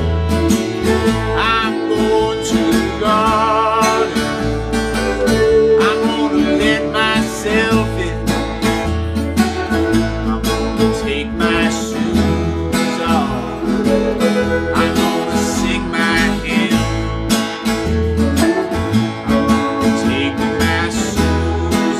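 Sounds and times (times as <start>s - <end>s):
bass: 0.0s - 21.9s
bending lead guitar line: 0.0s - 21.9s
strummed acoustic guitar: 0.0s - 21.9s.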